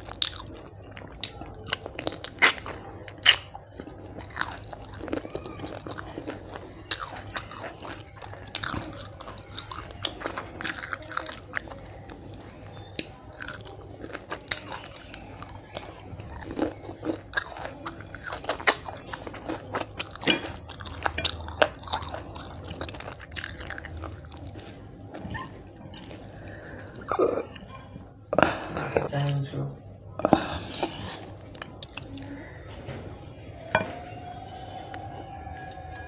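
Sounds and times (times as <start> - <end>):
person chewing food: 0.0 - 33.0, 33.6 - 36.0.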